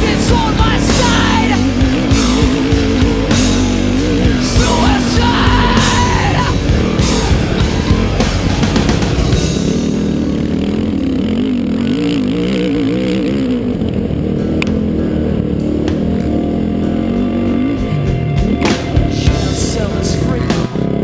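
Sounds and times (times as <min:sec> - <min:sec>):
off-road vehicle engine revving: 0:00.0 - 0:21.0
rock music: 0:00.0 - 0:21.0.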